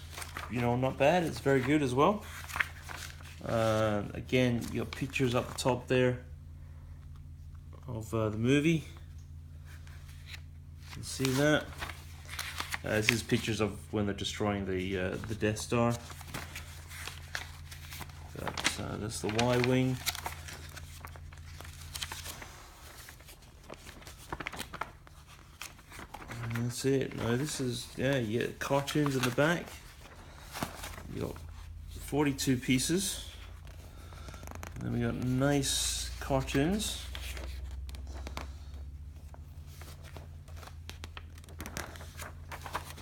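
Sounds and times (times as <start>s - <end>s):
paper pages rustling: 0.0s - 5.8s, 9.0s - 43.0s
low hum: 2.2s - 40.7s.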